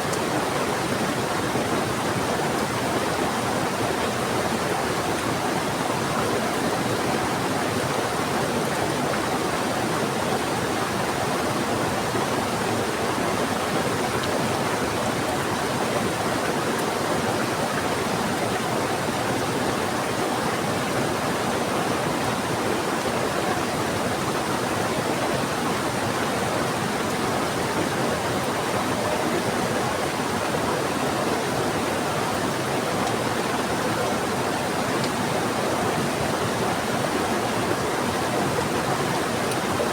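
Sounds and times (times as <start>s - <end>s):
fast-flowing river rushing: 0.0s - 39.9s.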